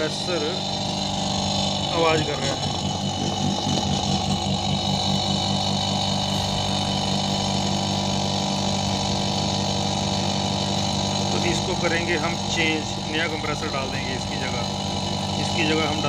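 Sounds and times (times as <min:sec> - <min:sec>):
refrigerator compressor humming: 0:00.0 - 0:16.0.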